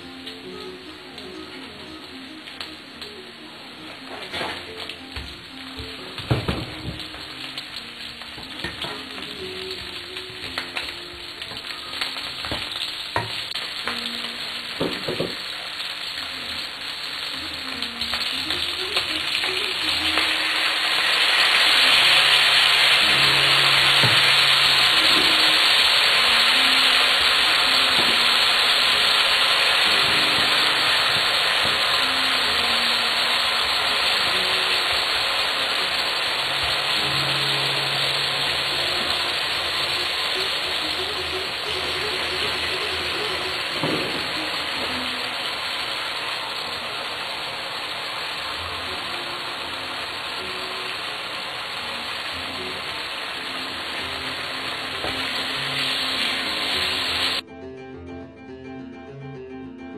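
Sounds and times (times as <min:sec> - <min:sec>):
food sizzling in frying pan: 0:00.0 - 0:57.4.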